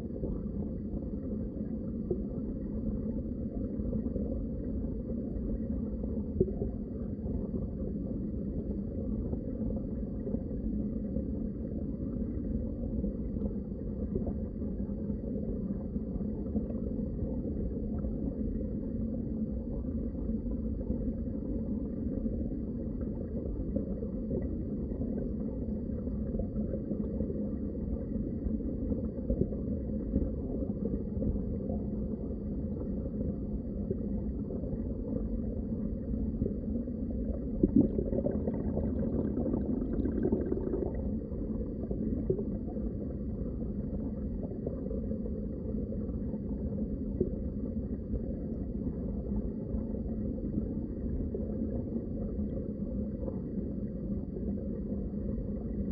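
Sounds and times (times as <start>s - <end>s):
underwater rumble of moving water: 0.0s - 55.9s.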